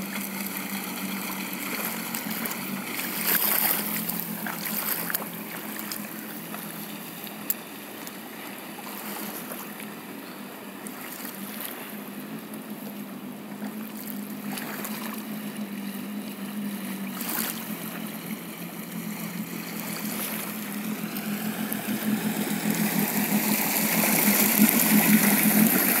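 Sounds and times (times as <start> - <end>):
jet ski engine running: 0.0 - 26.0
water wash: 0.0 - 26.0.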